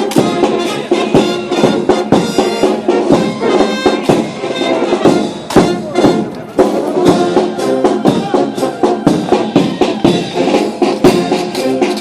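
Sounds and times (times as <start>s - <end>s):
band music: 0.0s - 12.0s
steady drum beat: 0.0s - 12.0s.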